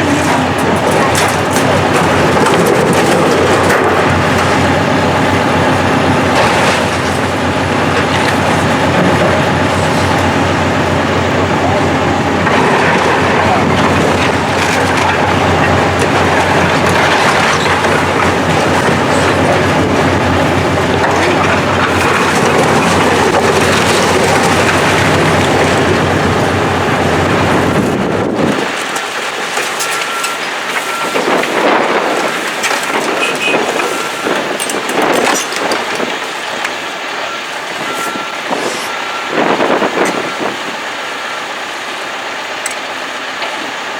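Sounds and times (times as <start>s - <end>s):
debris clattering and grinding: 0.0s - 40.6s
demolition machinery rumbling: 0.0s - 43.9s.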